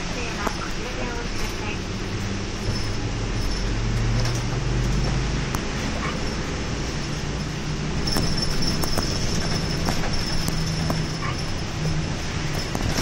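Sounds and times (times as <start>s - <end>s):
bus diesel engine running: 0.0s - 13.0s
tyres hissing on wet road: 0.0s - 13.0s.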